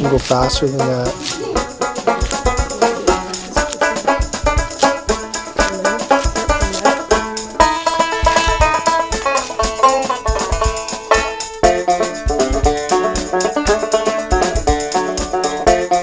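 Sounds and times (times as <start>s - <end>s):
banjo-like plucked tune over beat: 0.0s - 16.0s.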